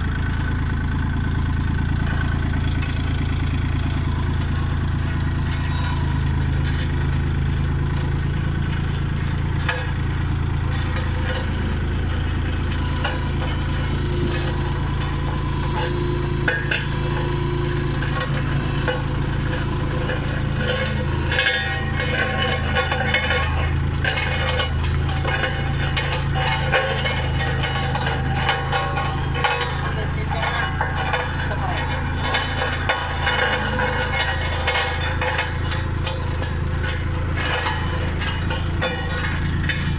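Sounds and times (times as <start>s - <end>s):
road roller engine humming: 0.0s - 39.9s.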